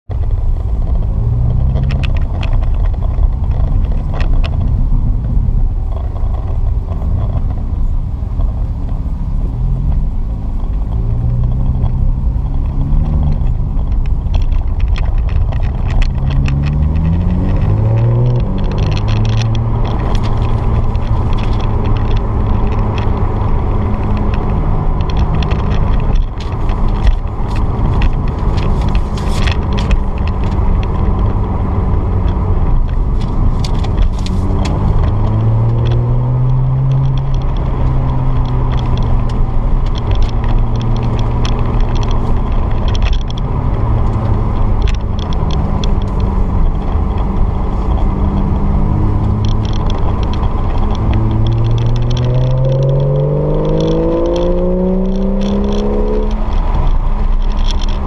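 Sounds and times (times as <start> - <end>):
road rumble: 0.0 - 58.0
car engine revving: 0.4 - 58.0.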